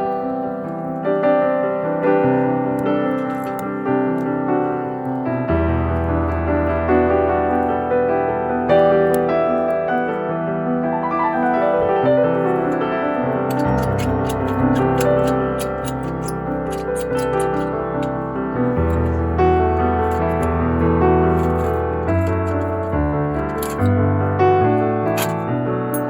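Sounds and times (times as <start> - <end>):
piano background music: 0.0 - 26.0.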